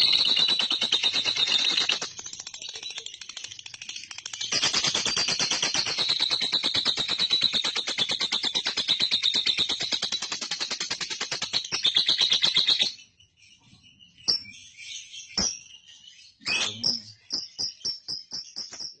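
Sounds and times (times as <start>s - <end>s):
bird chattering chirps: 0.0s - 19.0s.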